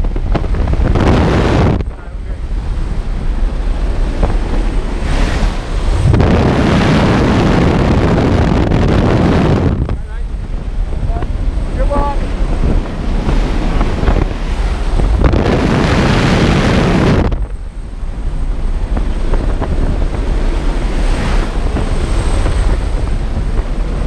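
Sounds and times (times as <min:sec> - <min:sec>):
slipstream and engine rush: 0:00.0 - 0:24.0
wind buffeting microphone: 0:00.0 - 0:24.0.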